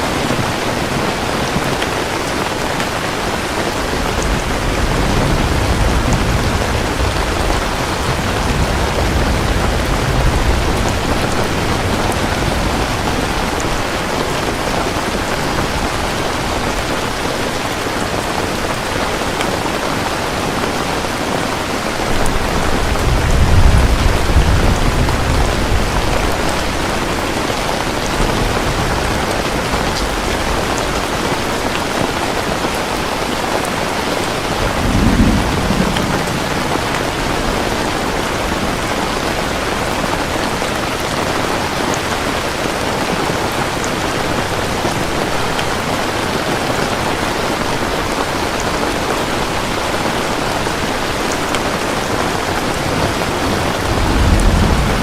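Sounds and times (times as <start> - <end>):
heavy rain falling: 0.0 - 55.0
thunder rumbling: 0.1 - 18.8, 21.9 - 55.0.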